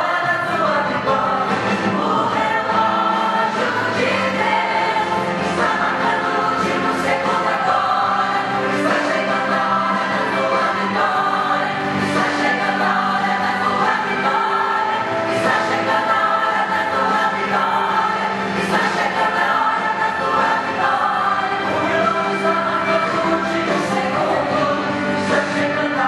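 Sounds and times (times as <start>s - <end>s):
women's choir singing a hymn: 0.0s - 26.0s.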